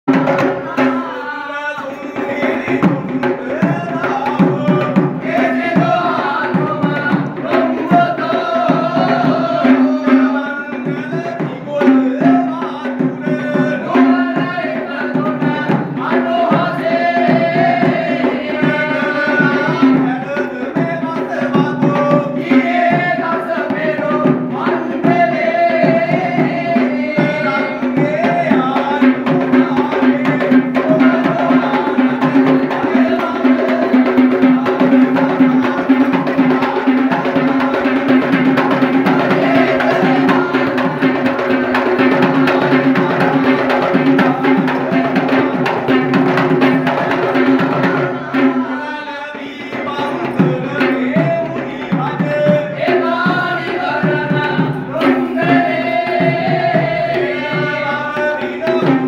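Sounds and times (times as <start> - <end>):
drums beating fast rhythm: 0.0 - 59.0.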